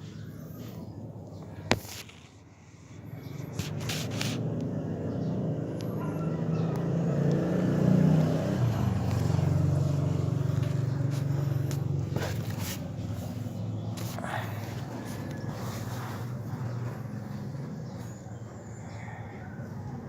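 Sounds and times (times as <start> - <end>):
vehicle engine passing: 0.1 - 20.0.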